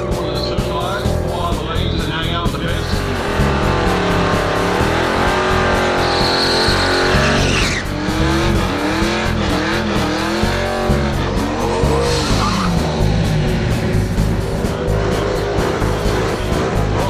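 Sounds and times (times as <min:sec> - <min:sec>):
muscle car engine revving: 0:00.0 - 0:17.0
music with steady beat: 0:00.0 - 0:17.0.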